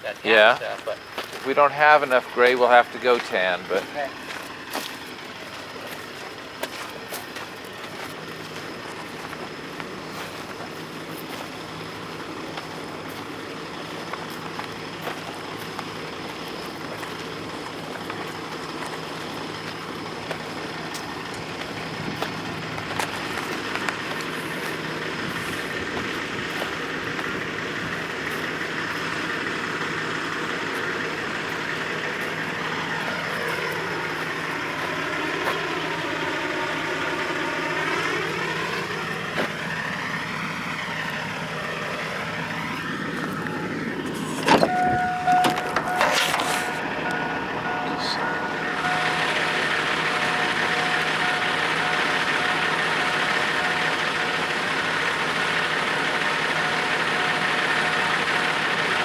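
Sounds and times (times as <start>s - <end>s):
truck passing by: 0.0s - 59.0s.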